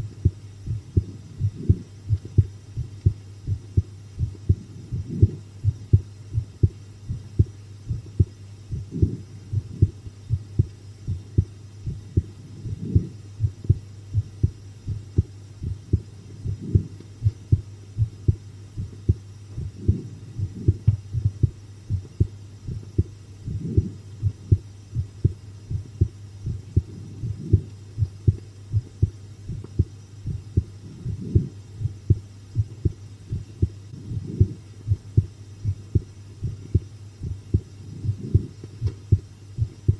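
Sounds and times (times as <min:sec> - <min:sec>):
constant low hum: 0:00.0 - 0:39.9
heartbeat: 0:00.0 - 0:39.9.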